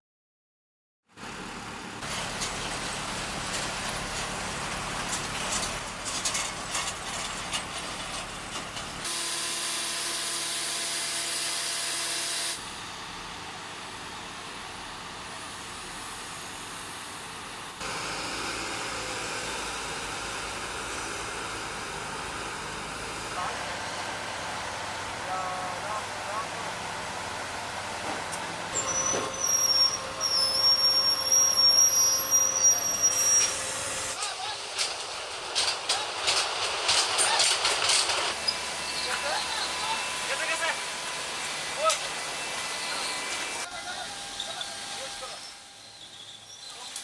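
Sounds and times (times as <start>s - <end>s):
cargo loaders running: 1.2s - 47.0s.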